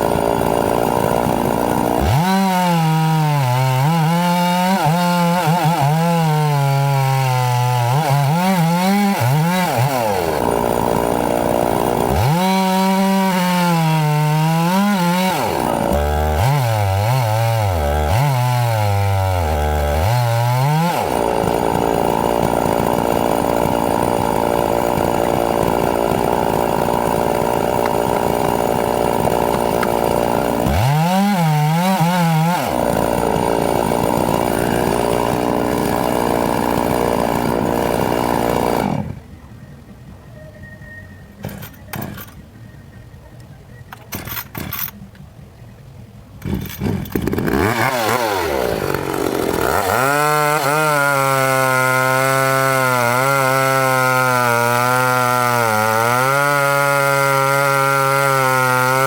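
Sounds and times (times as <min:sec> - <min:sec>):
chainsaw cutting wood: 0:00.0 - 0:39.2, 0:41.4 - 0:42.4, 0:44.0 - 0:45.0, 0:46.4 - 0:59.0.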